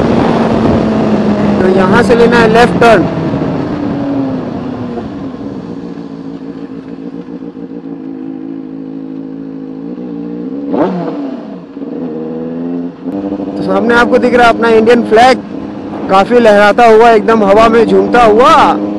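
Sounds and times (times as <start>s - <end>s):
motorcycle engine revving: 0.0s - 18.9s
motorcycle engine running: 0.0s - 18.9s.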